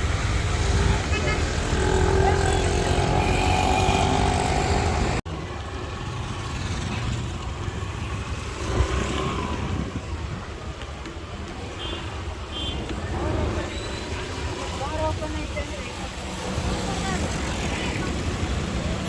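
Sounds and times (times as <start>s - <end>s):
traffic engine and tyre rumble: 0.0s - 19.0s.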